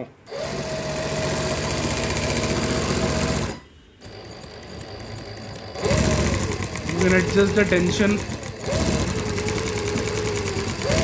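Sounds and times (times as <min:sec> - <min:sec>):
embroidery machine stitching rattle: 0:00.3 - 0:11.0
motor hum: 0:00.3 - 0:11.0.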